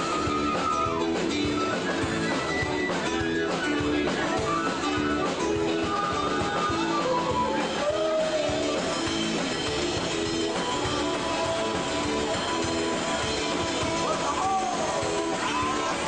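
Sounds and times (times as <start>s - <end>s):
guitar music: 0.0s - 16.0s.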